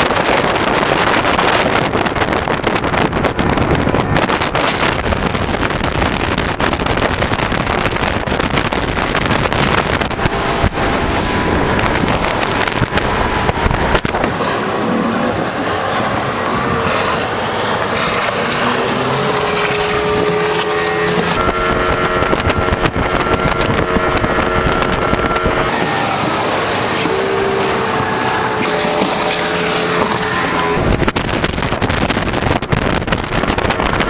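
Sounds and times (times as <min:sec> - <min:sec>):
outboard engine at speed: 0:00.0 - 0:34.0
rushing water: 0:00.0 - 0:34.0
wind buffeting microphone: 0:00.0 - 0:34.0.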